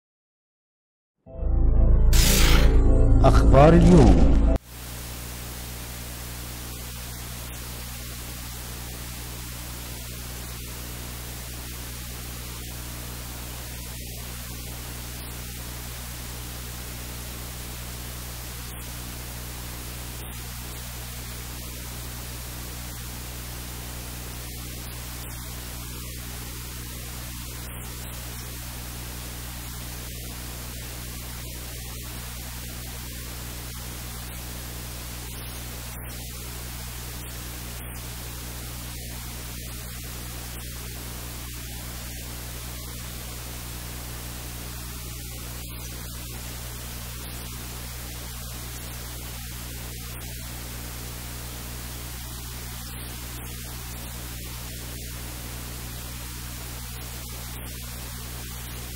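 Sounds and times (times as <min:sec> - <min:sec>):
static hiss: 0:04.6 - 0:58.9.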